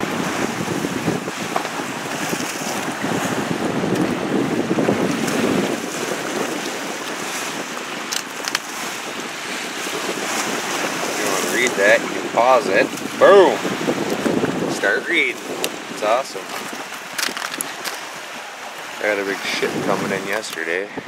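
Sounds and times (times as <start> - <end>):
lake waves washing: 0.0 - 21.0
wind buffeting microphone: 0.0 - 21.0.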